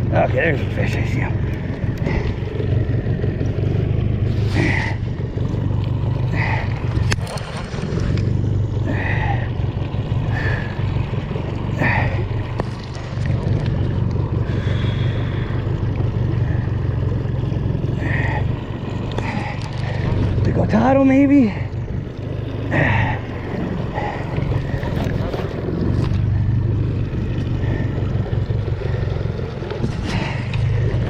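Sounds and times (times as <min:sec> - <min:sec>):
outboard motor running: 0:00.0 - 0:31.0
wind and water noise: 0:00.0 - 0:31.0.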